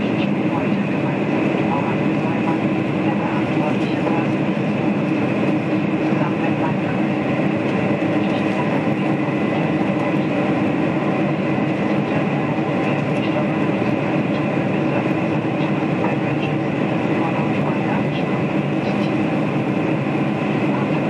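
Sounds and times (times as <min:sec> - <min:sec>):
jet engines droning: 0:00.0 - 0:21.0.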